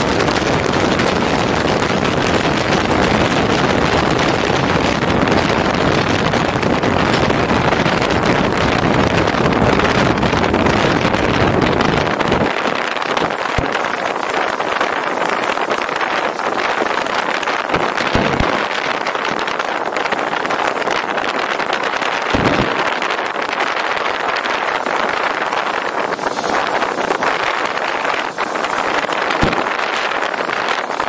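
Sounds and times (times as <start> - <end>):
deep wind buffeting: 0.0 - 31.0
wind rushing over microphone: 0.0 - 31.0.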